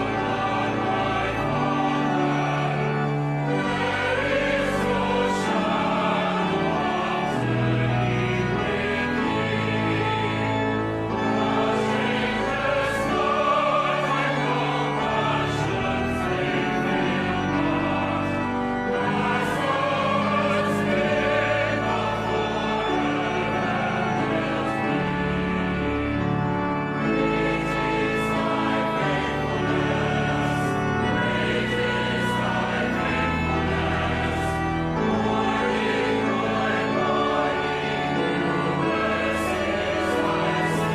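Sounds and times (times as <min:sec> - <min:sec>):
choir singing sacred music: 0:00.0 - 0:40.9.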